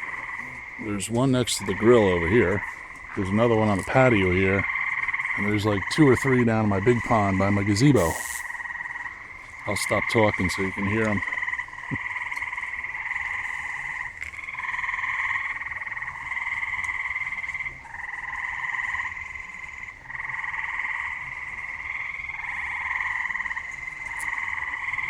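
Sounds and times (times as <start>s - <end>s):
frogs trilling chorus: 0.0s - 25.0s.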